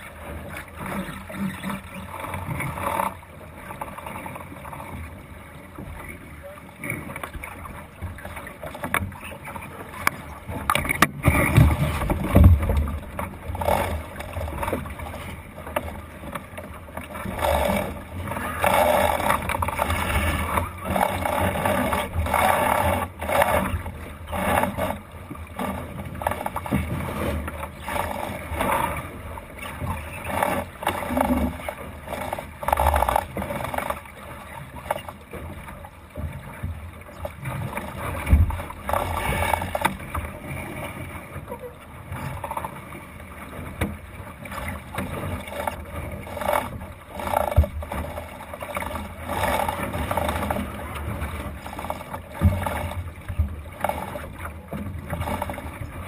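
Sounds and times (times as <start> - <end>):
water splashing along boat hull: 0.0 - 56.0.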